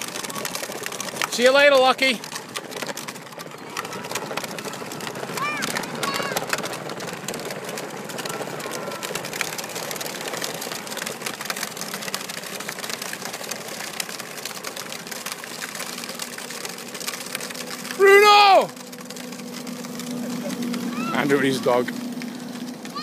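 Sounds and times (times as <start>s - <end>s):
small electric motors whining: 0.0s - 23.0s.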